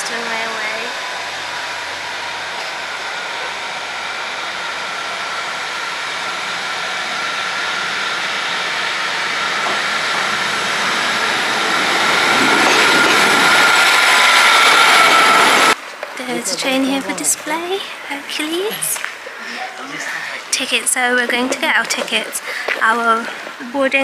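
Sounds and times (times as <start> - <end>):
train rushing past on rails: 0.0 - 19.3
thin high whine: 0.0 - 24.0.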